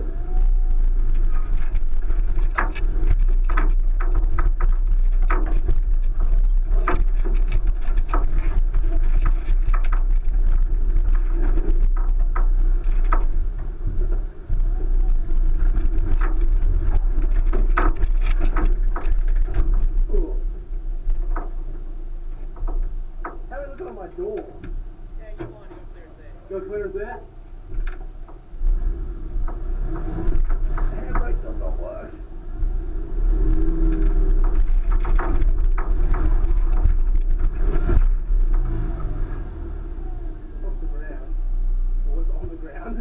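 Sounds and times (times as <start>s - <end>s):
car engine running: 0.0s - 43.0s
body and suspension knocks: 0.9s - 25.9s, 27.6s - 39.4s.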